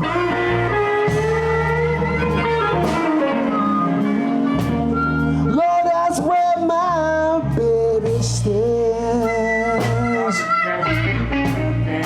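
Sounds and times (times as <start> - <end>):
electric guitar bending notes: 0.0 - 12.0
live blues band playing: 0.0 - 12.0.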